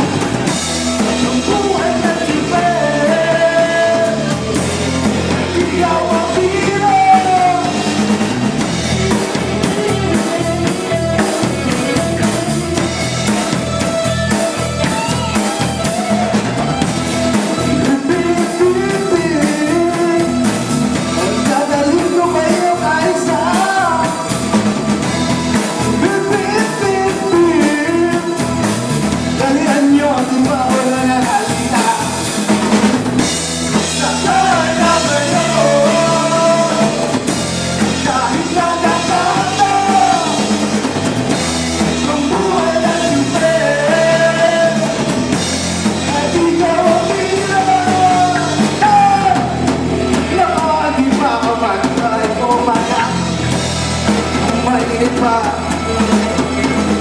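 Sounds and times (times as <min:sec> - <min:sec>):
drum kit beat: 0:00.0 - 0:57.0
rock band playing: 0:00.0 - 0:57.0.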